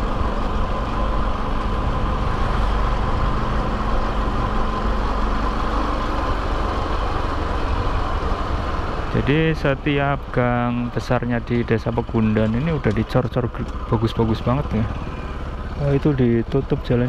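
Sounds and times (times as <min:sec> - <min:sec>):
small motorbike engine running: 0:00.0 - 0:17.0.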